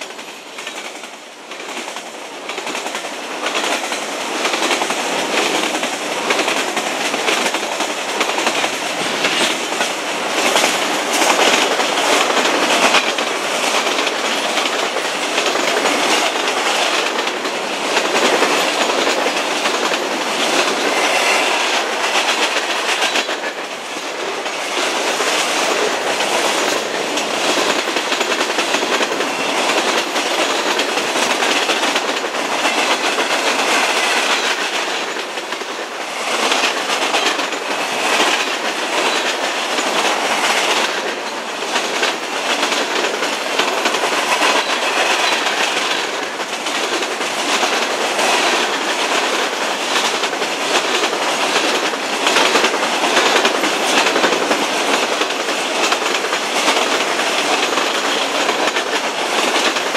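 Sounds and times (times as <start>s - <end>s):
train wheels clacking: 0.0s - 59.9s.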